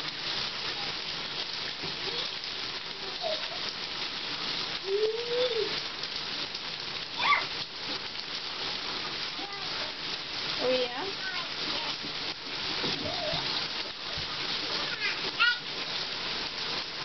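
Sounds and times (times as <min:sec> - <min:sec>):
water rushing in a bathtub: 0:00.0 - 0:17.0.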